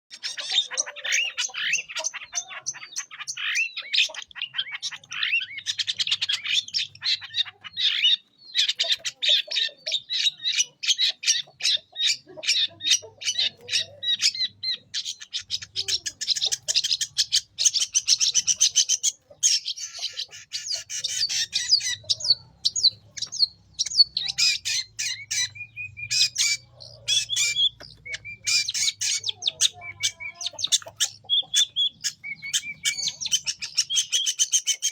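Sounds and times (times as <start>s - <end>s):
bird harsh chattering song: 0.0s - 34.9s.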